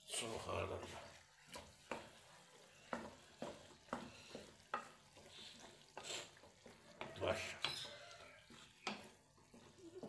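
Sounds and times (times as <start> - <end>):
meat sizzling: 0.0 - 10.0
wooden spoon knocking on a pan: 1.5 - 10.0.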